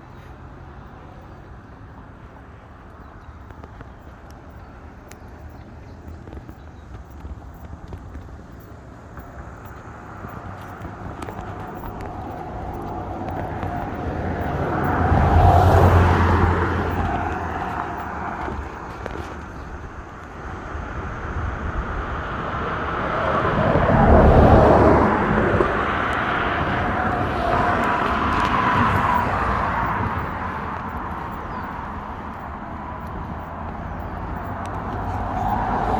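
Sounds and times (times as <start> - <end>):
vehicles passing by: 0.0 - 35.9.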